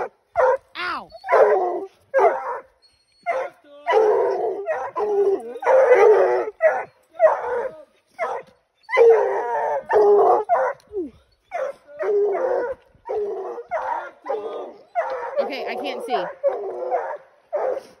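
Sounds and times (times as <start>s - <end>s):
hounds barking: 0.0s - 18.0s
hounds bawling: 0.0s - 18.0s.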